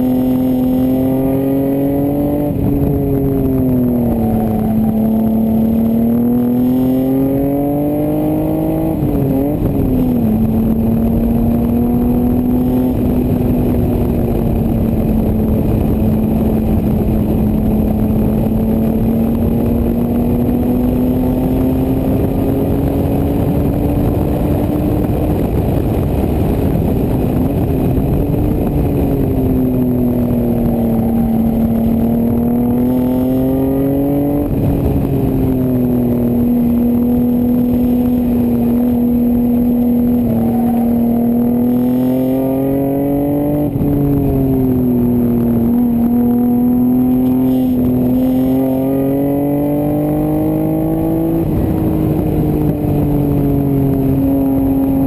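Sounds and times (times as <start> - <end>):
car engine running hard: 0.0 - 55.0
wind rush: 0.0 - 55.0.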